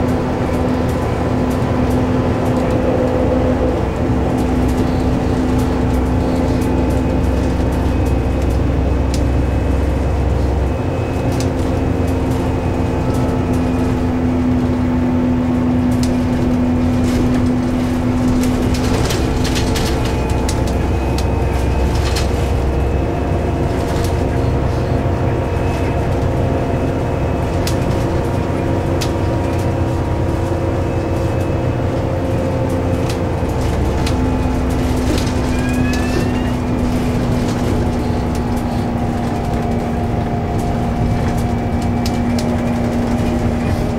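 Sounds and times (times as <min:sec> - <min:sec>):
bus engine drone: 0:00.0 - 0:43.9
interior rattles and clicks: 0:00.0 - 0:43.9.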